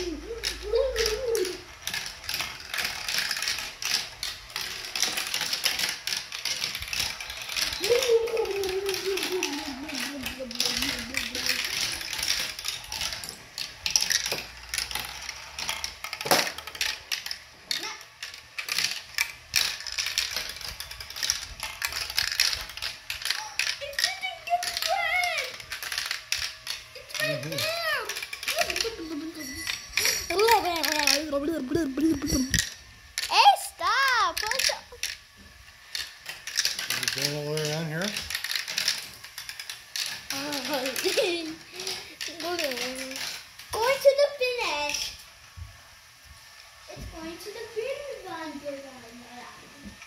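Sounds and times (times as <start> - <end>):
chain elevator ticking: 0.0 - 45.4
marbles clicking on plastic tracks: 0.0 - 50.0.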